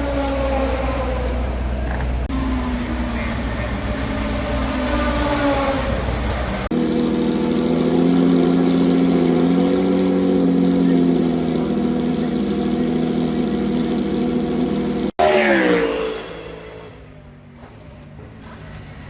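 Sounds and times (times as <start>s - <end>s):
race car engine running: 0.0s - 18.6s.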